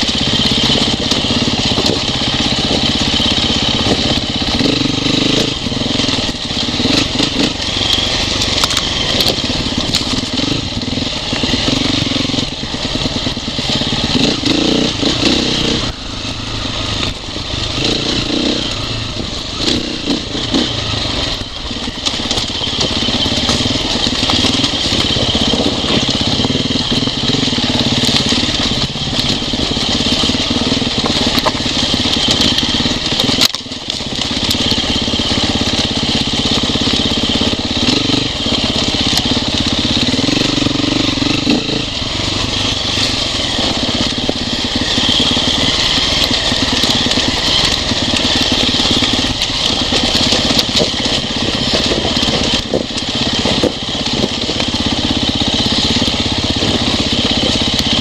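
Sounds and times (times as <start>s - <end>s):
dirt bike engine revving: 0.0s - 58.0s
stones crunching under tyres: 0.0s - 58.0s.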